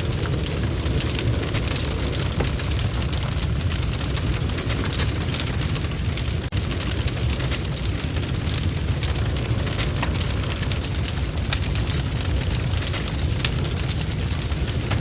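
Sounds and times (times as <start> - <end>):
bonfire snaps and pops: 0.0 - 15.0
rumble of flames: 0.0 - 15.0.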